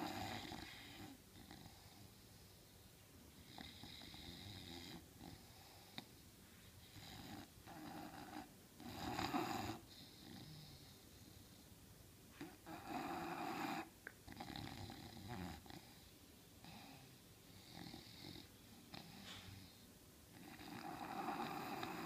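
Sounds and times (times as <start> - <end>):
dog snoring: 0.0 - 2.5, 3.4 - 6.1, 6.8 - 11.4, 12.4 - 22.0.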